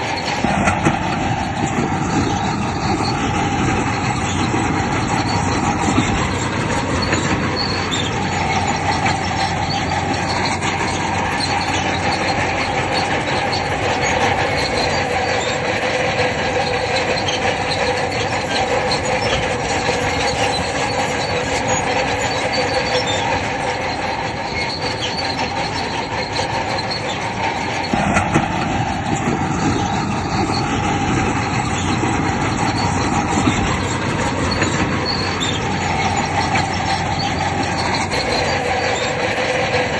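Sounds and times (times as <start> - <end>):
bulldozer engine running: 0.0 - 39.9
crawler tracks squealing: 0.0 - 39.9.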